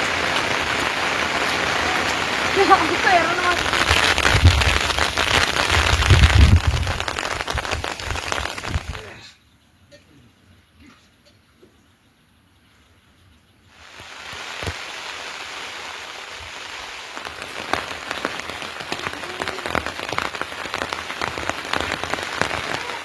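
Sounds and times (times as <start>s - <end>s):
rain falling: 0.0s - 9.4s, 13.1s - 23.0s.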